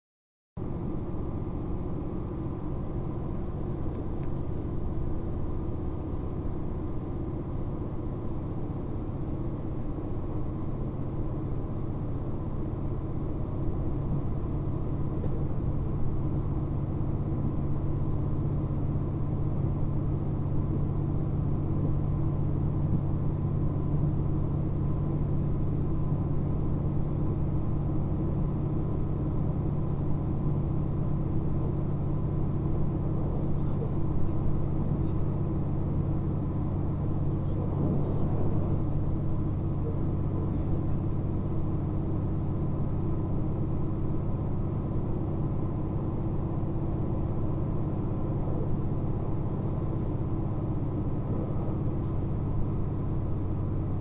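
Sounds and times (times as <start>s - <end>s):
diesel engine drone: 0.6s - 54.0s
rail running noise: 0.6s - 54.0s.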